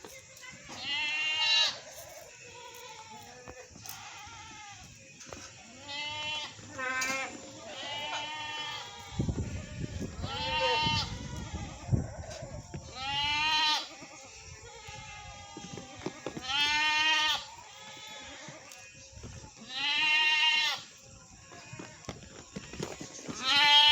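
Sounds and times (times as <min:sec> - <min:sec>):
goat bleating: 0:00.3 - 0:20.9, 0:23.3 - 0:23.9.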